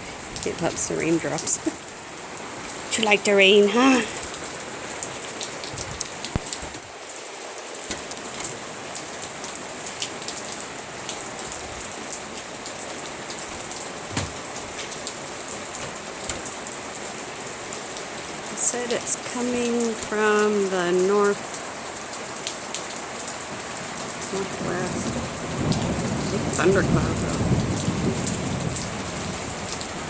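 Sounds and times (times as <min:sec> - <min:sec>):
rain pattering on hard surfaces: 0:00.0 - 0:30.0.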